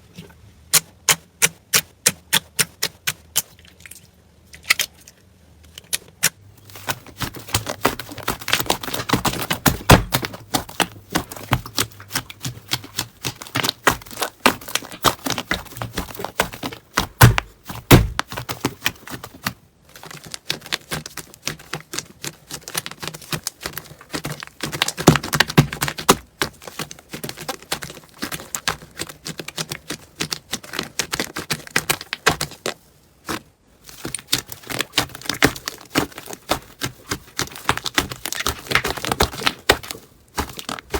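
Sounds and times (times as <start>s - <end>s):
slime crackling and popping: 5.9s - 32.7s, 34.0s - 40.9s.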